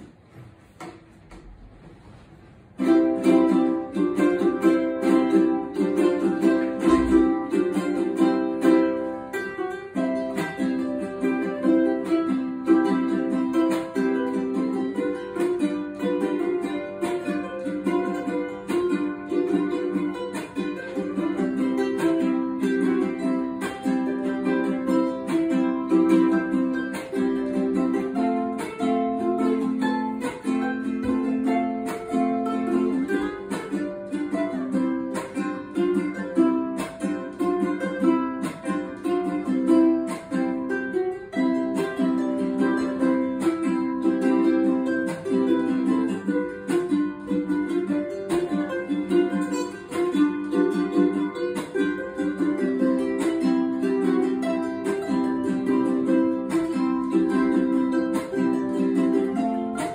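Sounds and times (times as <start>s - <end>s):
ukulele duet: 0.0s - 59.9s.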